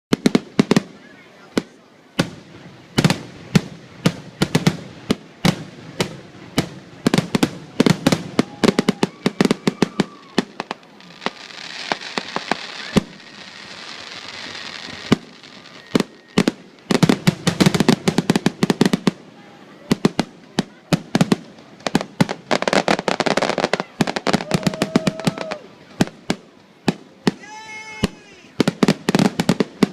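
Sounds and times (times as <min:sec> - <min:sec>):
fireworks bangs: 0:00.1 - 0:29.9
fireworks hiss: 0:00.1 - 0:29.9.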